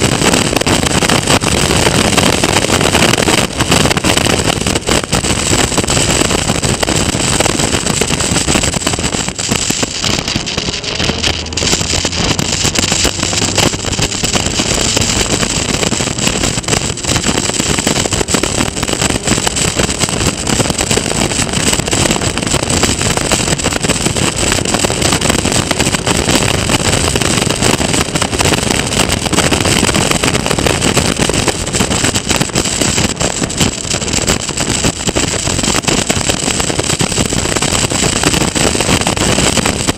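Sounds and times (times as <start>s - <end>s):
racing car engine running hard: 0.0s - 35.6s
road noise: 0.0s - 39.9s
wind noise: 0.0s - 39.9s.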